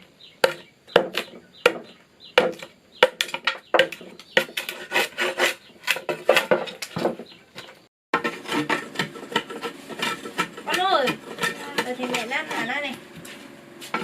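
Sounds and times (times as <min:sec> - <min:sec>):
hand tool scraping wood: 0:00.4 - 0:14.0.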